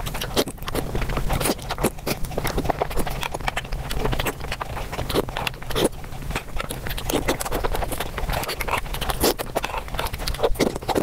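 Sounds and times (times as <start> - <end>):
wet chewing and mouth smacking: 0.0 - 11.0.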